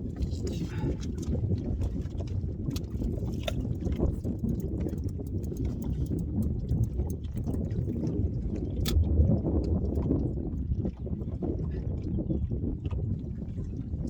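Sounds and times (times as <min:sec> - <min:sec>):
low uneven boat rumble: 0:00.0 - 0:14.0.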